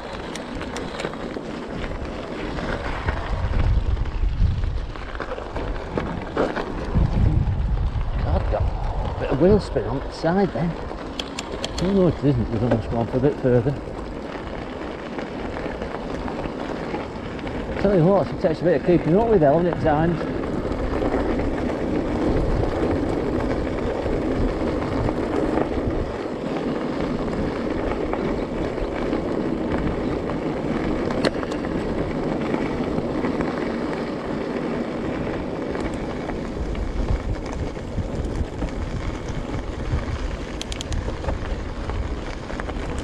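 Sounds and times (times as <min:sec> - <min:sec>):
bike tyres crunching on gravel: 0:00.0 - 0:43.0
wind on microphone: 0:01.7 - 0:14.7, 0:17.2 - 0:33.3, 0:34.9 - 0:43.0.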